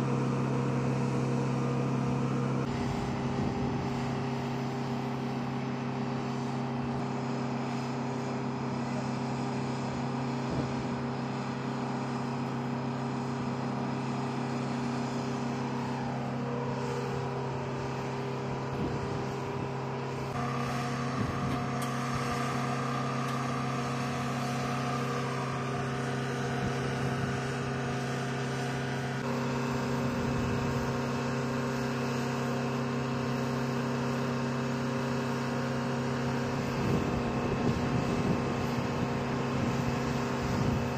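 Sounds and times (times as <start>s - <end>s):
machine drone: 0.0s - 40.9s.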